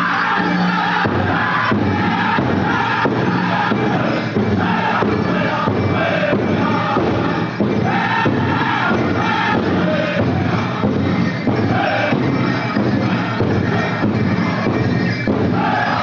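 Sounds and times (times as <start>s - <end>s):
voices chanting together: 0.0s - 16.0s
steady beat on large drum: 1.0s - 16.0s.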